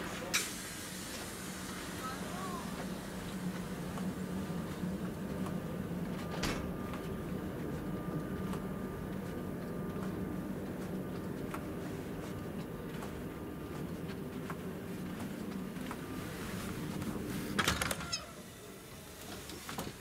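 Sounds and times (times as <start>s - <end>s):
low hum inside train car: 0.0s - 20.0s.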